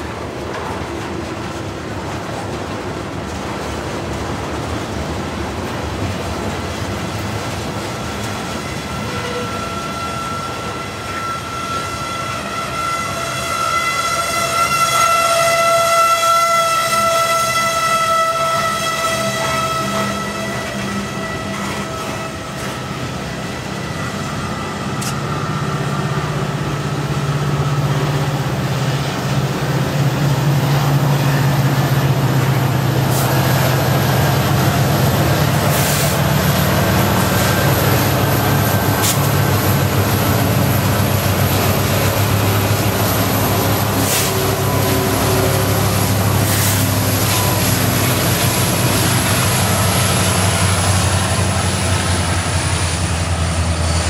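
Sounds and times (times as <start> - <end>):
diesel locomotive engines droning: 0.0 - 54.0.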